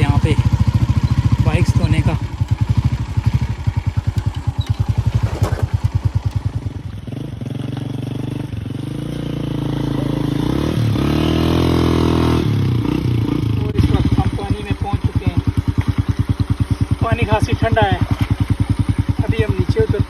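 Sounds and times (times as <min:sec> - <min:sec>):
motorcycle engine chugging: 0:00.0 - 0:20.0.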